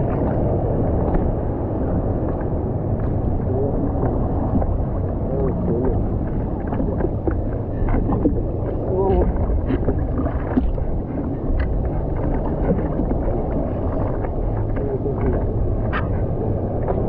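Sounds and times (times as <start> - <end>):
seawater sloshing and lapping: 0.0 - 17.0
wind rumbling on microphone: 0.0 - 17.0
small water splashes: 2.0 - 17.0.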